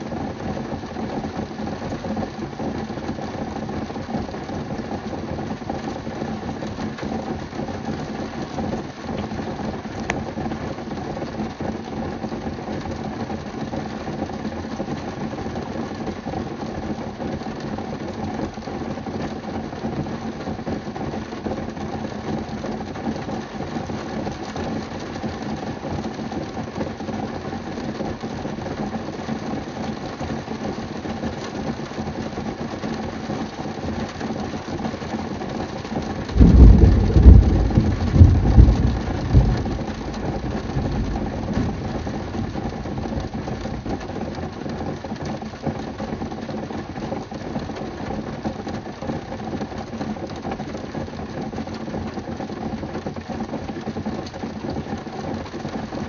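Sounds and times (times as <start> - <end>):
rain drumming on car roof: 0.0 - 56.0.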